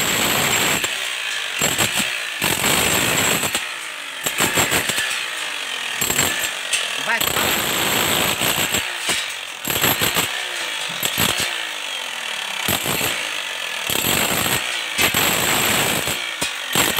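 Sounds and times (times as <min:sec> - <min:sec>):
demolition hammer breaking concrete: 0:00.0 - 0:16.9.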